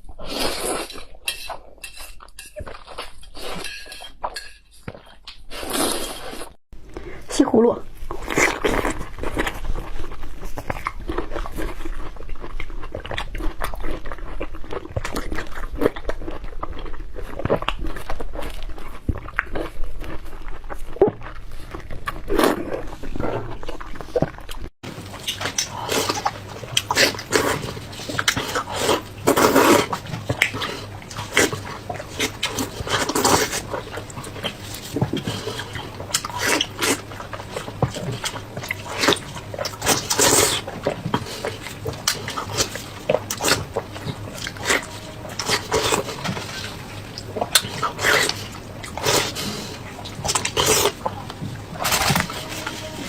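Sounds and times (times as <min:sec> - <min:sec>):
chewing and crunching: 0:00.0 - 0:53.0.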